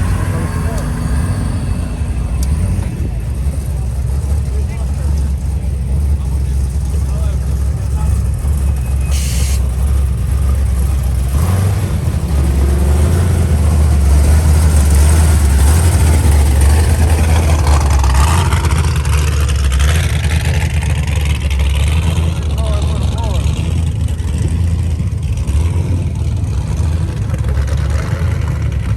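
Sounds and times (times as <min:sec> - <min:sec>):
car engine accelerating: 0:00.0 - 0:28.9.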